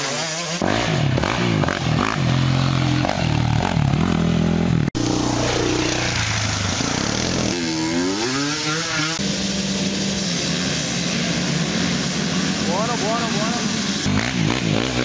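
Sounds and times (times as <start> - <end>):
off-road engines revving: 0.0 - 15.0.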